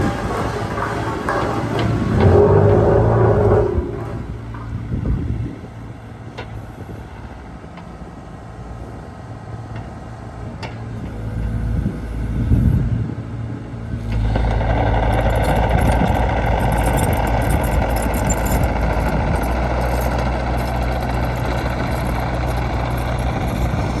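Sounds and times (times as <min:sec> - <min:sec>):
excavator diesel engine: 0:00.0 - 0:24.0.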